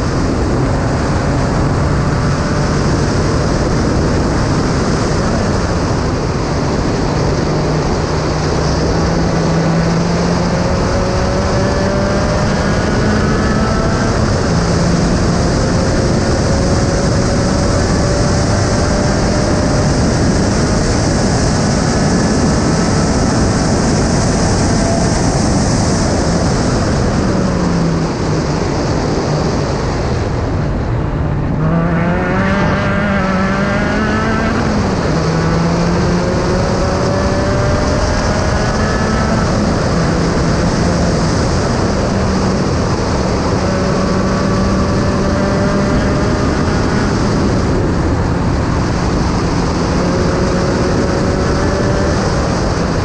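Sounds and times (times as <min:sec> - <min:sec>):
heavy wind rush: 0:00.0 - 0:53.0
race car engine at speed: 0:00.0 - 0:53.0.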